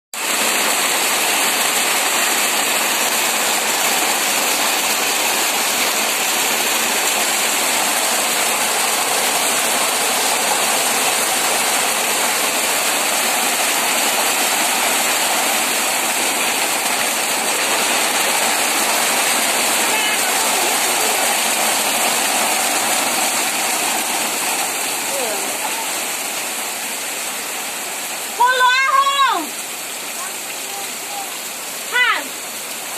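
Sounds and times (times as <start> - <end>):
heavy rain splashing into water: 0.2 - 32.9.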